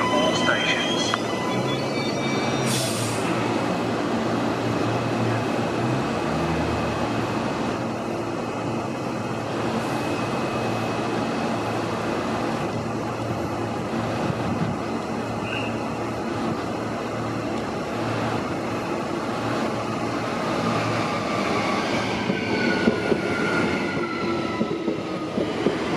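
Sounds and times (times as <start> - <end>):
electric train hum and rumble: 0.0 - 25.9.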